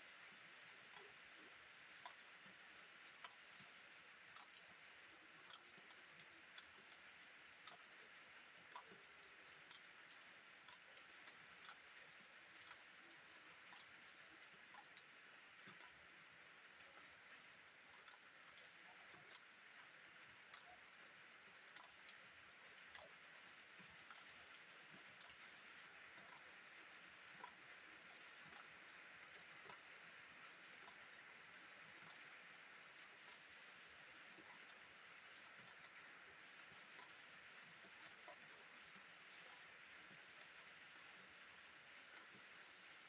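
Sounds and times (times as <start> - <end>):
steady faint rain: 0.0 - 43.0.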